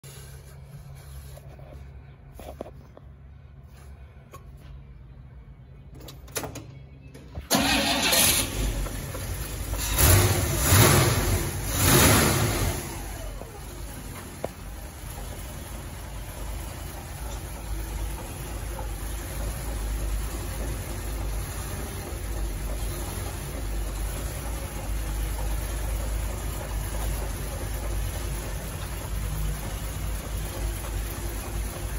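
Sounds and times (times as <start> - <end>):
car engine starting and running: 5.6 - 31.9.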